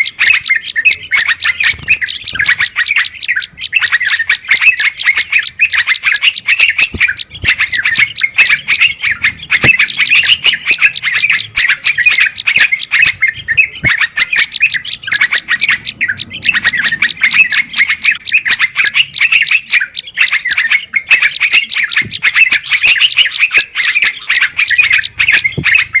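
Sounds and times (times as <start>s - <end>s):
songbirds chirping alarm calls: 0.0s - 26.0s.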